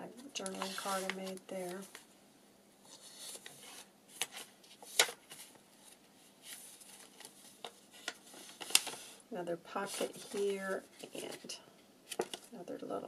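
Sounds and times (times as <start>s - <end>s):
paper pages rustling: 0.2s - 2.0s, 2.8s - 11.5s, 12.1s - 12.6s.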